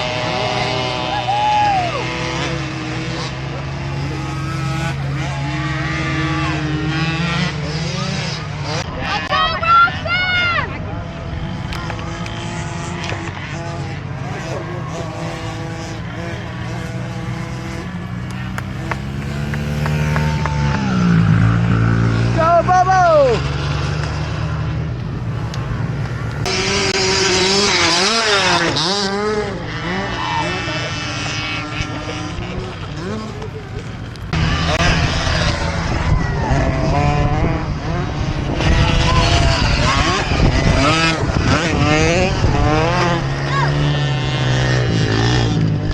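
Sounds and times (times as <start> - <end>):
dirt bike engines droning: 0.0 - 45.9.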